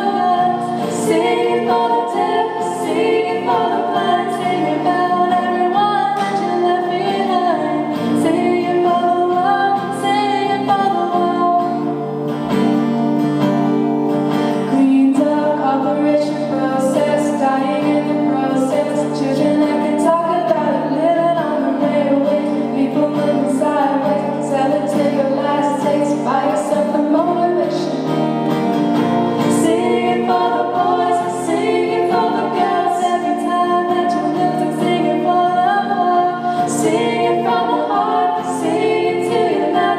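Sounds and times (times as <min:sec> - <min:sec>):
voices singing together: 0:00.0 - 0:11.8, 0:14.7 - 0:28.2, 0:29.4 - 0:39.9.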